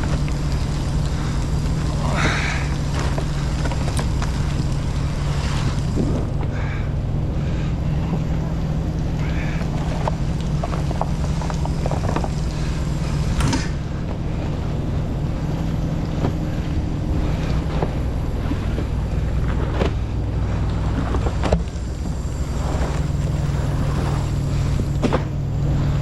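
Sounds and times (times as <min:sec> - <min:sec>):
large engine droning: 0:00.0 - 0:26.0.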